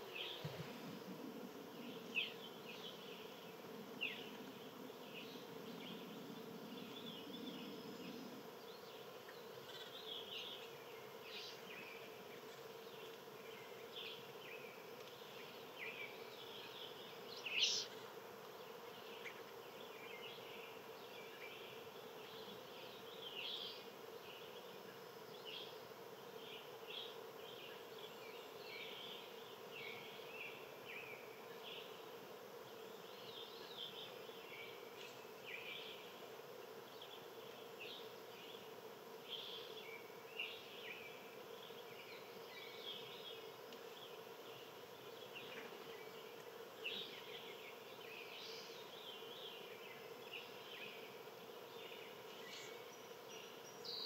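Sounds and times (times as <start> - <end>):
low buzzing hum: 0.0 - 54.0.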